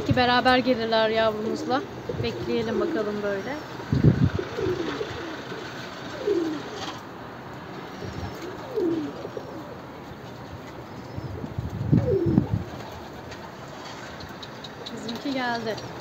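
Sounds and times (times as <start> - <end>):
pigeons cooing: 0.8 - 7.0, 7.6 - 16.0.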